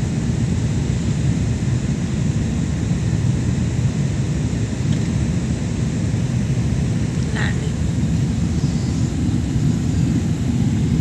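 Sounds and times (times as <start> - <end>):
airliner cabin engine roar: 0.0 - 11.0.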